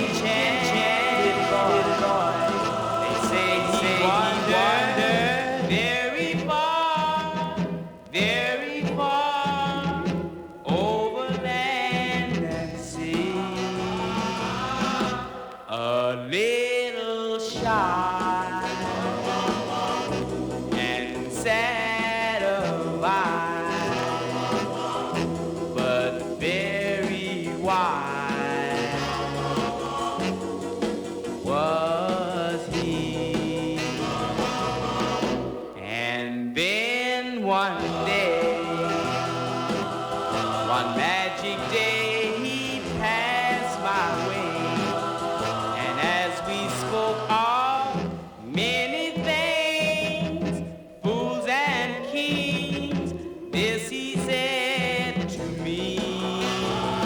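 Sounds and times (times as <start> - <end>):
instrumental backing: 0.0 - 15.8, 17.6 - 36.8, 37.7 - 57.0
choir-like group singing: 0.0 - 16.3, 17.5 - 36.4, 37.4 - 57.0.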